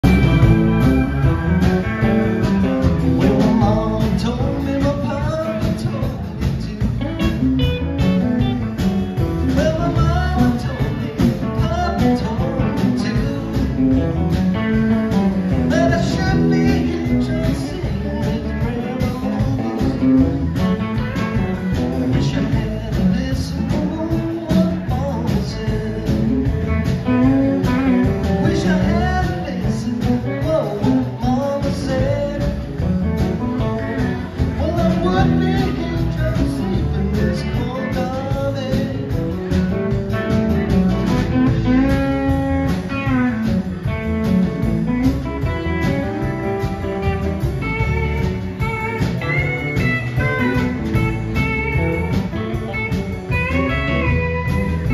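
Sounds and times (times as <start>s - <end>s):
blues rock band playing: 0.0s - 54.9s.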